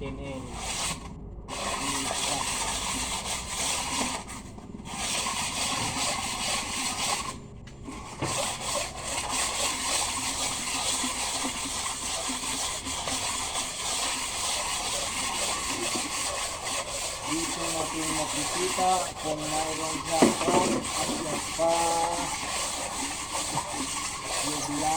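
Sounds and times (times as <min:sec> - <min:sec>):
metal scraping on abrasive: 0:00.2 - 0:24.9.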